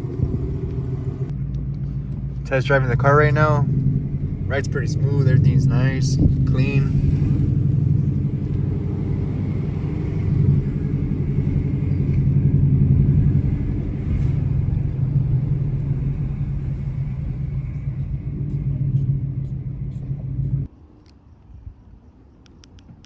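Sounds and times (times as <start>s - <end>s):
car engine drone: 0.0s - 20.8s
road rumble: 0.0s - 23.0s.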